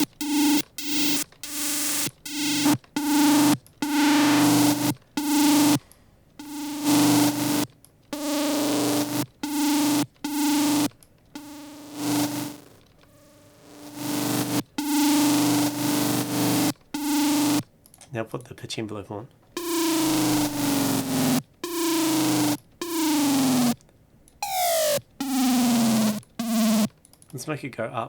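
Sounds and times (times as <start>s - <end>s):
buzzy synth bass notes: 0.0s - 5.8s, 6.4s - 17.6s, 19.6s - 23.8s, 24.4s - 26.9s.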